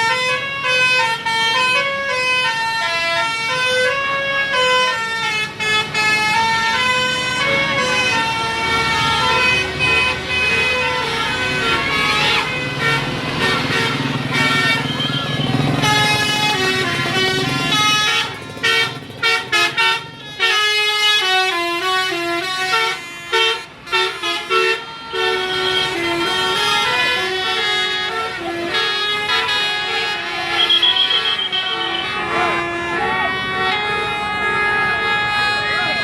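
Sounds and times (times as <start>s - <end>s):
musical bus horn playing a tune: 0.0s - 36.0s.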